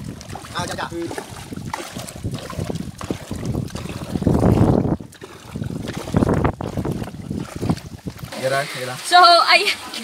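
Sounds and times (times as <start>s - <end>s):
wind buffeting microphone: 0.0s - 8.6s
water lapping against boat: 0.0s - 10.0s.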